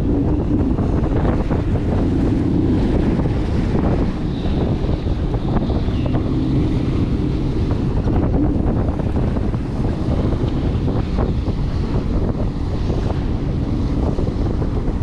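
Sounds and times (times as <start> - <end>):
jet ski engine running: 0.0 - 15.0
wind buffeting microphone: 0.0 - 15.0.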